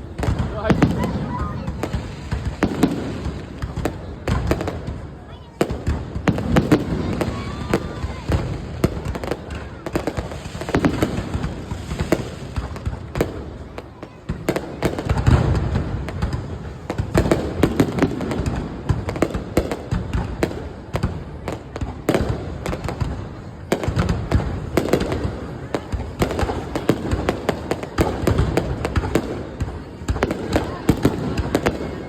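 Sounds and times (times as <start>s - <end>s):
deep fireworks booms: 0.0s - 32.0s
fireworks bangs and crackles: 0.0s - 32.0s.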